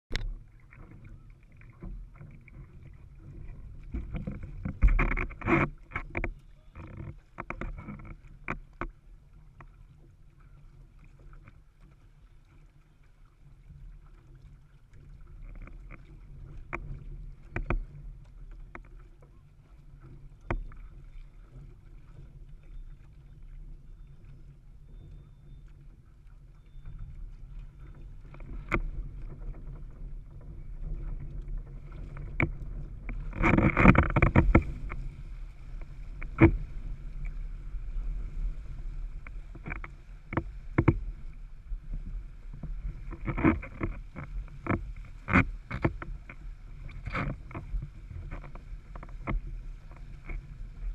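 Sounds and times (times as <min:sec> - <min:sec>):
water sloshing and lapping: 0:00.1 - 0:50.9.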